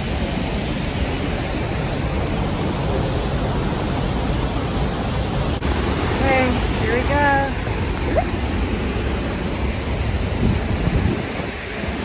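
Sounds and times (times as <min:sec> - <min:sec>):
waterfall rushing: 0:00.0 - 0:12.0
wind rumble on microphone: 0:00.0 - 0:12.0.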